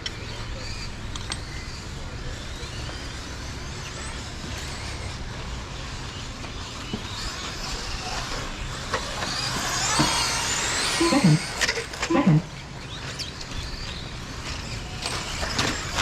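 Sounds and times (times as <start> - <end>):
toy truck electric motors whining: 0.0 - 16.0.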